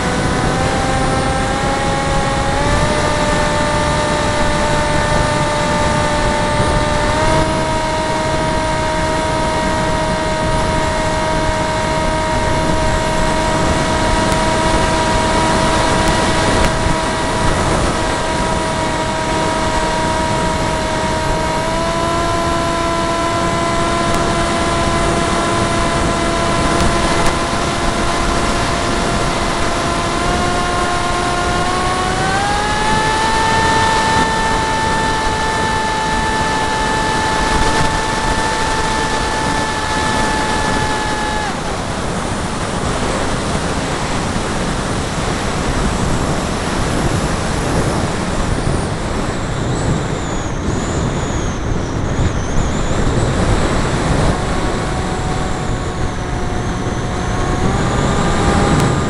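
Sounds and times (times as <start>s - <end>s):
electric motor and propeller whining: 0.0s - 59.0s
wind rush: 0.0s - 59.0s.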